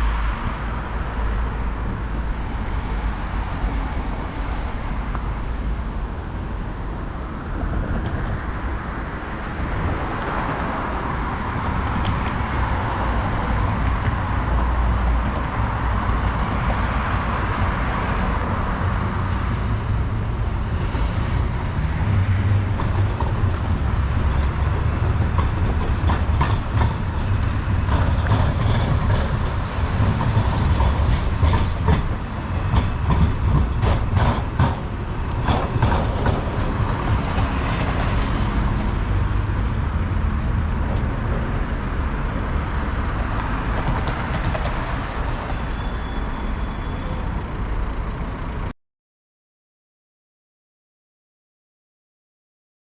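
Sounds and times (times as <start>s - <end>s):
rail vehicle rumbling past: 0.0s - 48.7s.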